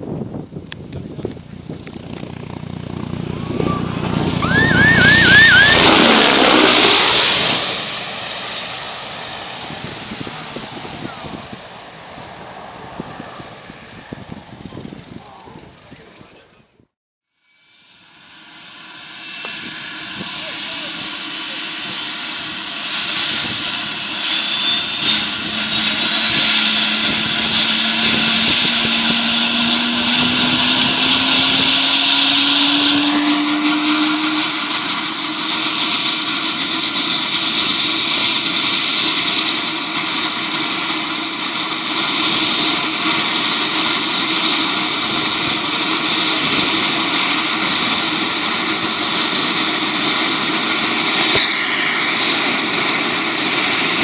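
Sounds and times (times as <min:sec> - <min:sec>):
helicopter engine and rotor whine: 0:00.0 - 0:16.7, 0:17.6 - 0:54.0.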